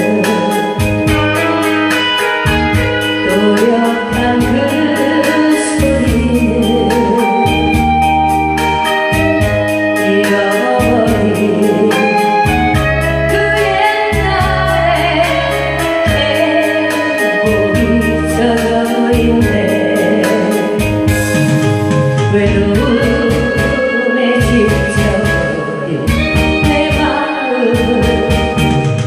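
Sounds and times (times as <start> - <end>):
drum machine beat: 0.0 - 27.2, 27.8 - 29.0
organ-style keyboard melody: 0.0 - 29.0
sustained bass notes: 0.0 - 29.0.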